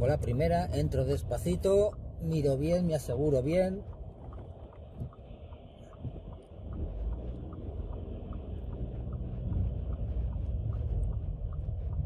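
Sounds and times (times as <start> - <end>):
engine and road rumble: 0.0 - 12.0
faint regular tick: 0.0 - 12.0.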